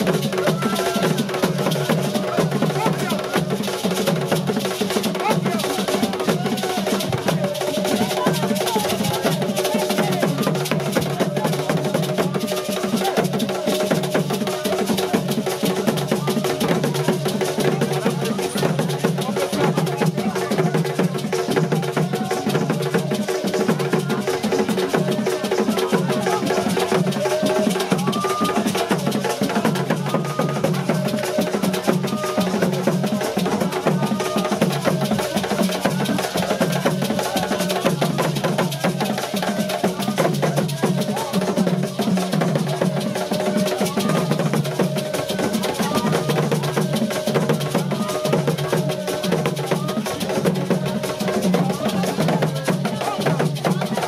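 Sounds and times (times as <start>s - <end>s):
drums and percussion: 0.0s - 54.0s.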